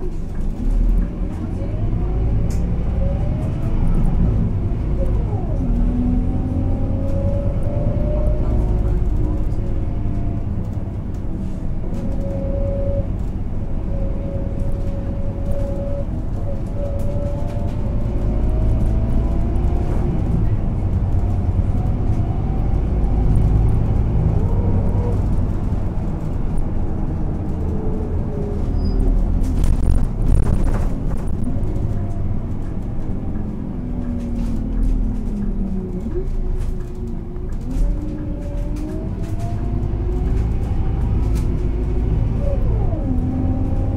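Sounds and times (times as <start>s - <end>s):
bus diesel engine drone: 0.0s - 43.9s.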